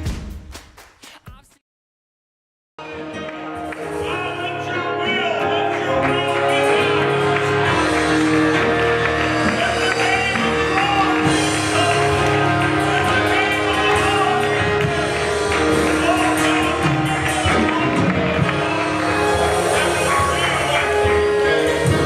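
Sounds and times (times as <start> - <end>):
band playing held chords: 2.8 - 22.0.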